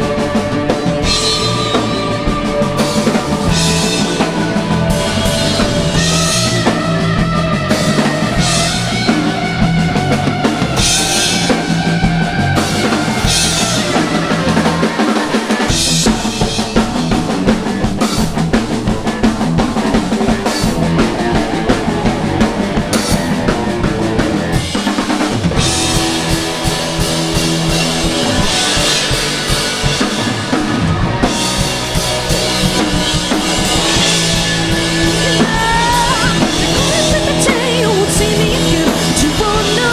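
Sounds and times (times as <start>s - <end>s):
bass drum and snare: 0.0s - 39.9s
rock band playing live: 0.0s - 39.9s.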